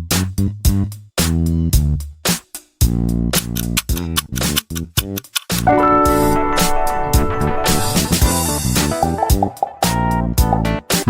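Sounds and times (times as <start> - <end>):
upbeat music with guitar and bass: 0.0 - 1.8, 3.4 - 11.0.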